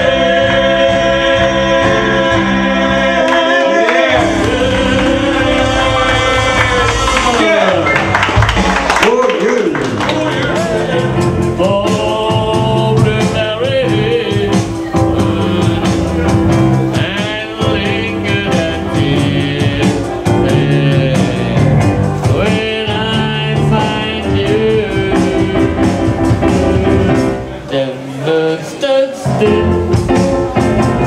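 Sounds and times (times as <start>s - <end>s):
person singing: 0.0s - 7.9s, 10.0s - 31.0s
live band playing: 0.0s - 31.0s.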